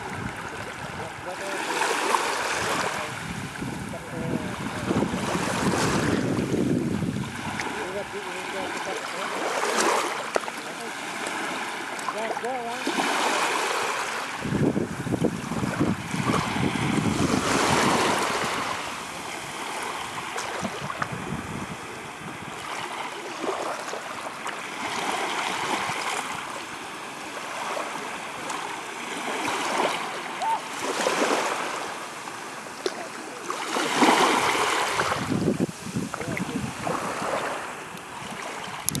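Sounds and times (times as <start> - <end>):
small waves lapping on sand: 0.0 - 39.0.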